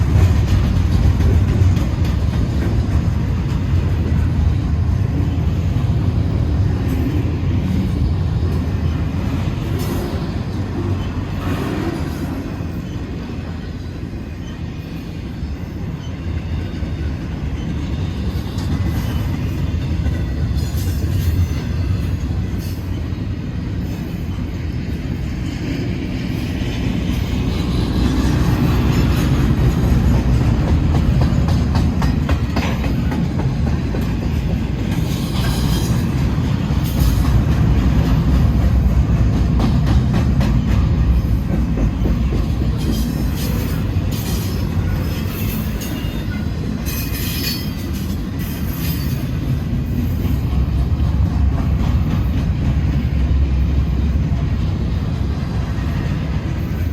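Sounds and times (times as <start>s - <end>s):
freight train rolling past: 0.0s - 56.9s.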